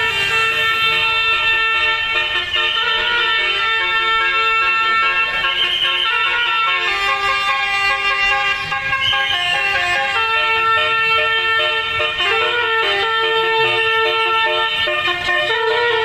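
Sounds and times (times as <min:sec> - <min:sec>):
bus air horns playing a tune: 0:00.0 - 0:16.0.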